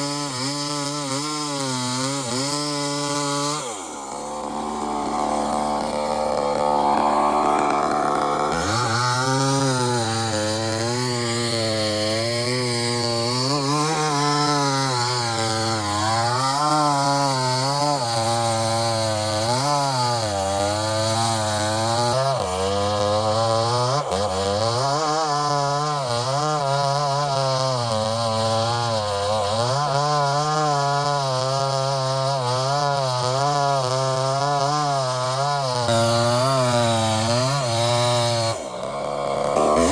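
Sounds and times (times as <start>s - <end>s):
chainsaw cutting through tree: 0.0s - 39.9s.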